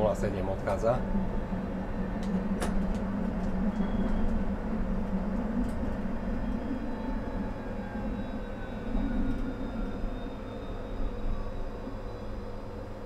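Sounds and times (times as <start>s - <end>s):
tram hum and rumble: 0.0s - 13.0s.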